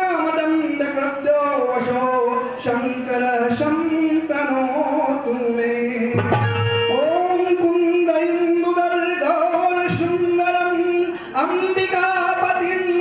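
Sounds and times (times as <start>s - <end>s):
devotional singing: 0.0s - 13.0s
tabla: 0.0s - 13.0s.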